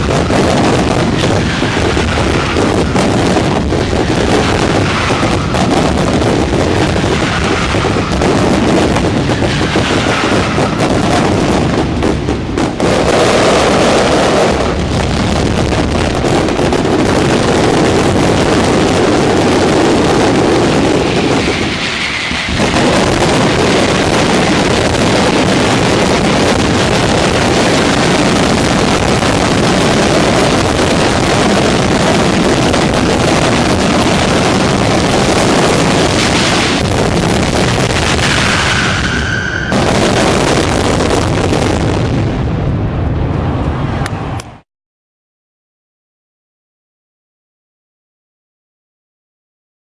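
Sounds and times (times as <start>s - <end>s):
fireworks bursts and bangs: 0.0s - 39.0s, 39.7s - 42.6s.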